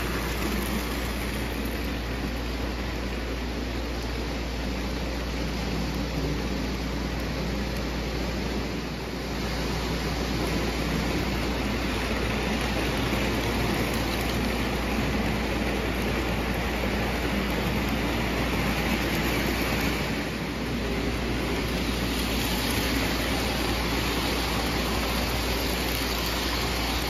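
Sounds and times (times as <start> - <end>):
metal wheels hissing on rails: 0.0 - 27.0
model trains rolling on track: 0.0 - 27.0.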